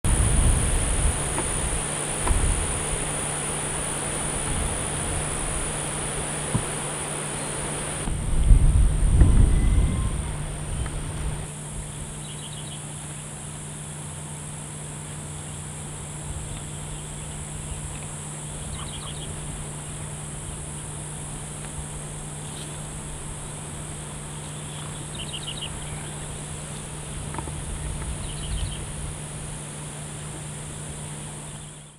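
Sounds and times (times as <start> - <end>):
insects buzzing: 0.0 - 31.9.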